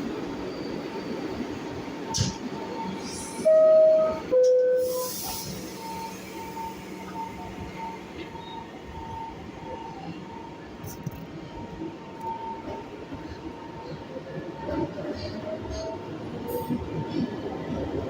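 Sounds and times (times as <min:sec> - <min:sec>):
subway train humming: 0:00.0 - 0:18.0.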